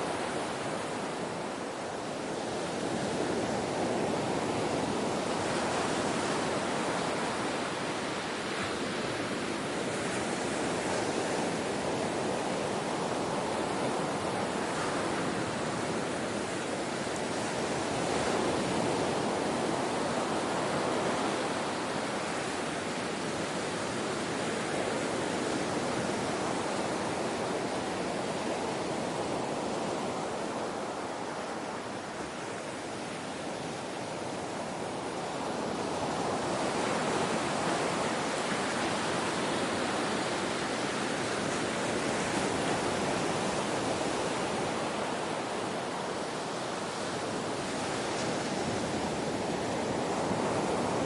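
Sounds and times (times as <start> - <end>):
ocean waves washing on shore: 0.0 - 51.0.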